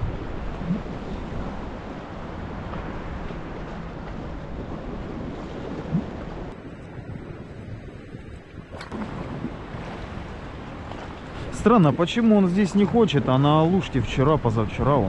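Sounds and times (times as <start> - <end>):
wind on microphone: 0.0 - 12.2
waves washing against breakwater: 0.0 - 15.0.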